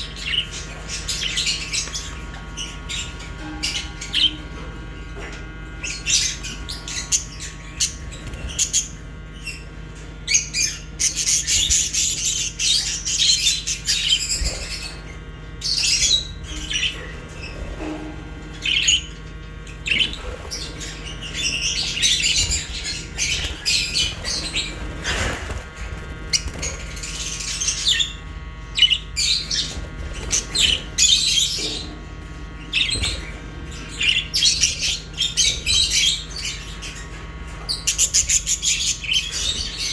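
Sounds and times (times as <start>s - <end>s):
small birds chirping and squawking: 0.0s - 39.9s
steady low hum: 0.0s - 39.9s.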